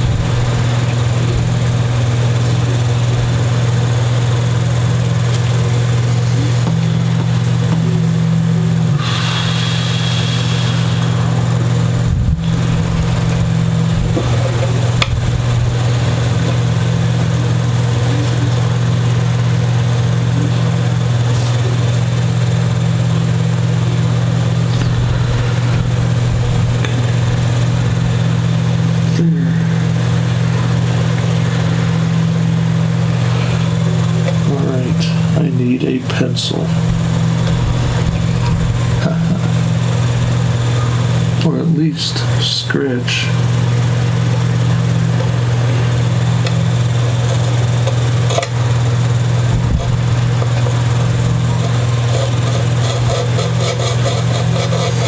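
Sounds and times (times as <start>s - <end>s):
loud low hum: 0.0s - 55.0s.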